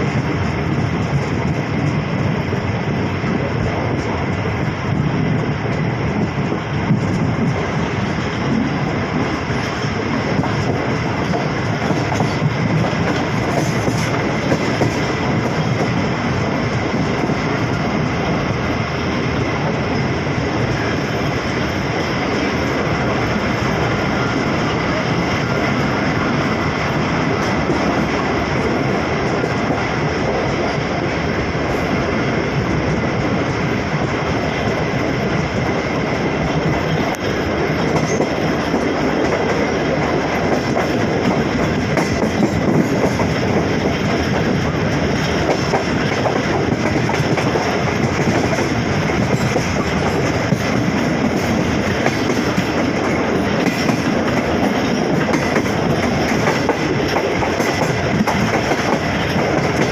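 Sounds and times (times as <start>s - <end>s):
train running on rails: 0.0s - 59.9s.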